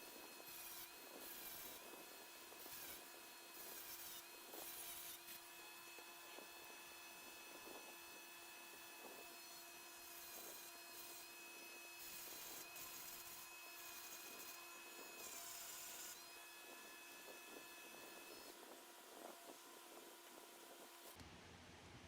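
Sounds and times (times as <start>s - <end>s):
rotary tool whine: 0.0s - 21.2s.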